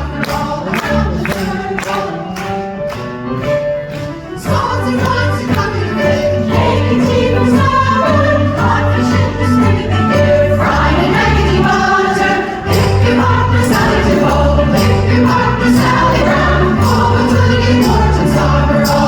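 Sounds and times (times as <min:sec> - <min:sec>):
women's chorus singing: 0:00.0 - 0:02.5, 0:04.4 - 0:19.0
percussion beat: 0:00.0 - 0:19.0.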